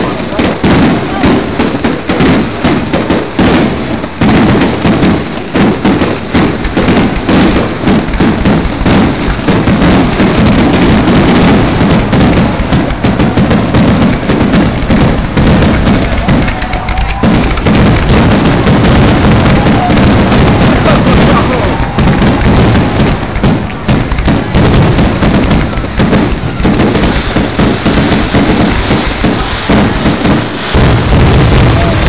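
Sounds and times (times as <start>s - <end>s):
fireworks bursting: 0.0s - 32.0s.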